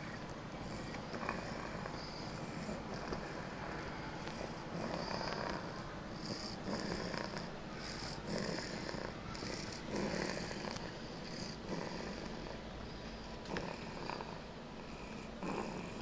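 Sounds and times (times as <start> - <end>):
child snoring: 0.7 - 3.5, 4.7 - 12.6, 13.4 - 16.0.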